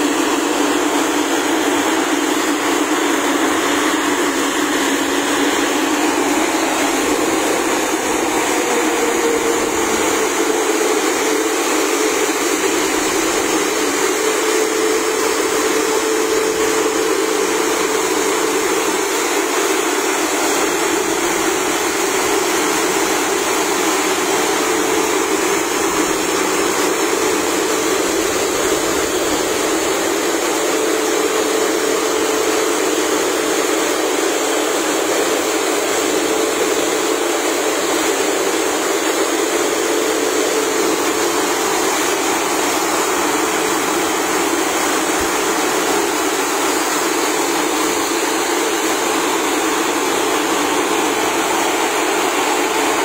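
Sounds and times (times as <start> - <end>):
jet engines idling: 0.0 - 53.0.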